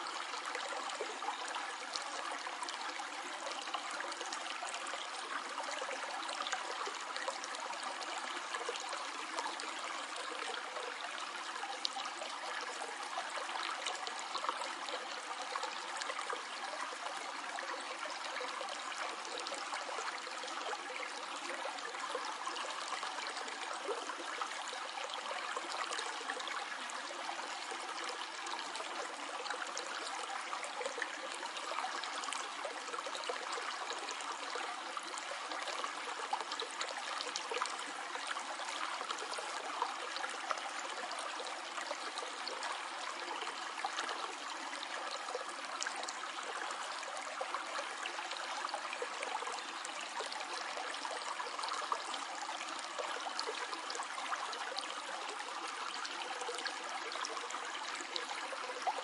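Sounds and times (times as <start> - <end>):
stream flowing and gurgling: 0.0 - 59.0.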